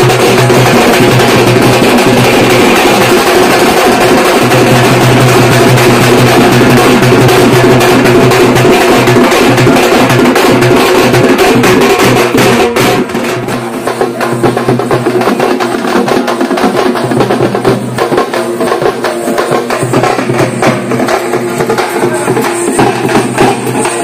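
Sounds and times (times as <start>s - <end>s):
frame drums beaten with sticks: 0.0s - 24.0s.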